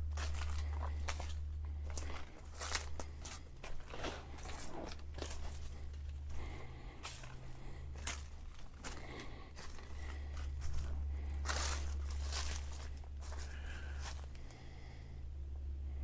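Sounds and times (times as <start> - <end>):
footsteps crunching through dry leaves: 0.0 - 14.8
steady low rumble: 0.0 - 16.0.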